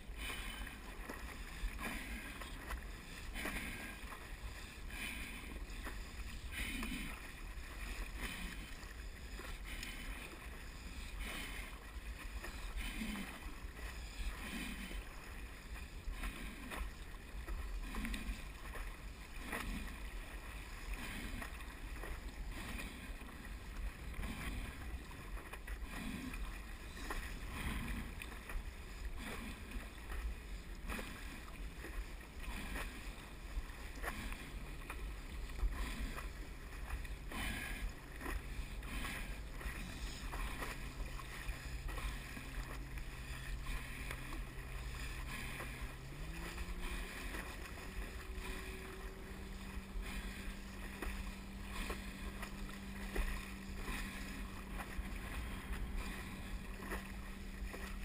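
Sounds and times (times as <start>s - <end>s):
paddle strokes splashing in water: 0.0s - 58.0s.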